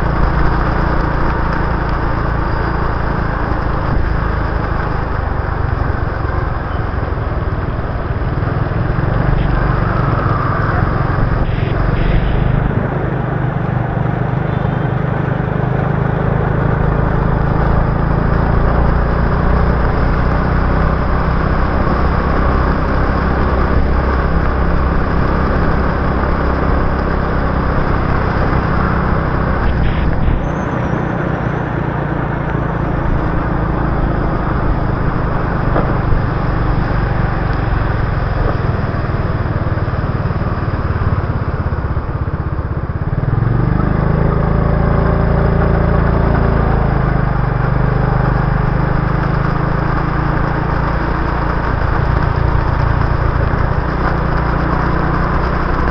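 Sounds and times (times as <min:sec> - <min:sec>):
motorbike engine running: 0:00.0 - 0:55.9.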